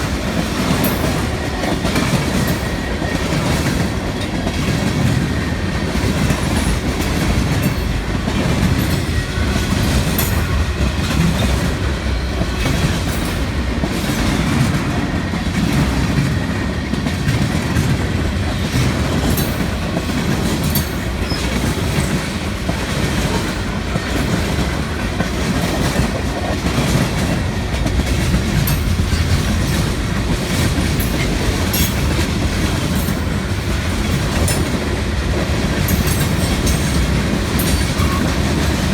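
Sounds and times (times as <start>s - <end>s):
freight train rumbling past: 0.0s - 38.9s
train wheel clicks on rail joints: 0.0s - 38.9s.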